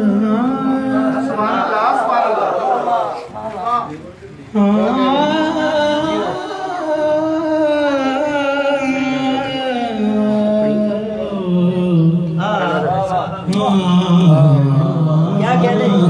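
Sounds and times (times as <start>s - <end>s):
man singing into a microphone: 0.0s - 2.0s, 4.5s - 16.0s.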